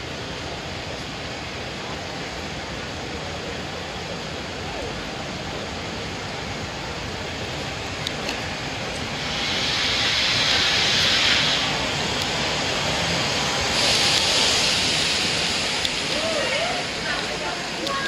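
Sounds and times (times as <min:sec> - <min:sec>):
steam locomotive hissing steam: 0:00.0 - 0:18.0.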